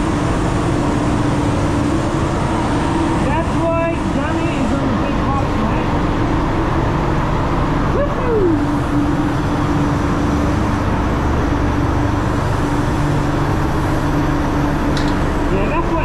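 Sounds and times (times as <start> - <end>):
constant hum: 0.0 - 16.0
ventilation air rumble: 0.0 - 16.0.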